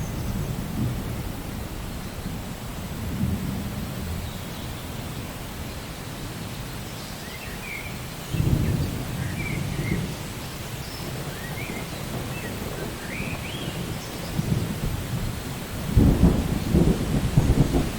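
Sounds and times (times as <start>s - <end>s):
thunder rumble: 0.0s - 4.8s, 8.3s - 17.9s
steady rain: 0.0s - 17.9s.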